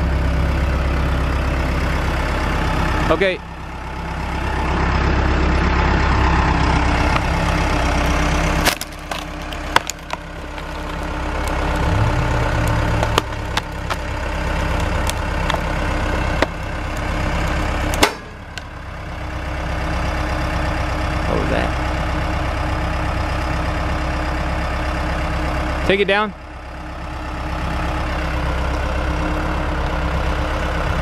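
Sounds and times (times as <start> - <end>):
heavy machine engine: 0.0 - 31.0.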